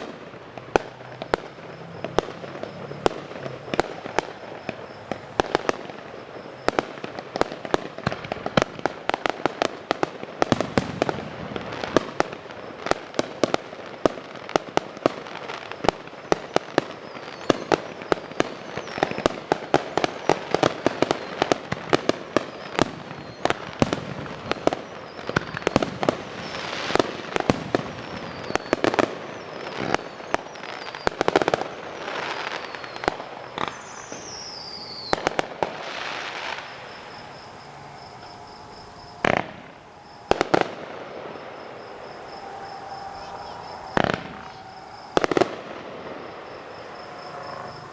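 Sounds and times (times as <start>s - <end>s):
falling firework whistles: 0.0s - 47.9s
fireworks cracks and bangs: 0.0s - 47.9s.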